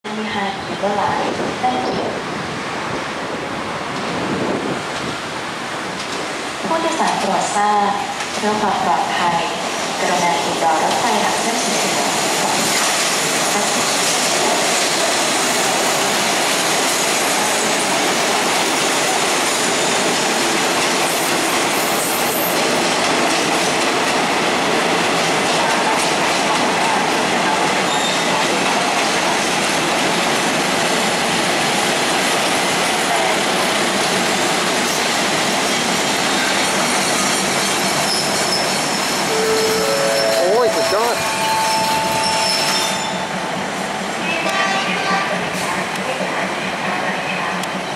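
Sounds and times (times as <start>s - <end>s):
train wheels rumbling over rails: 0.9s - 39.3s, 41.4s - 47.9s.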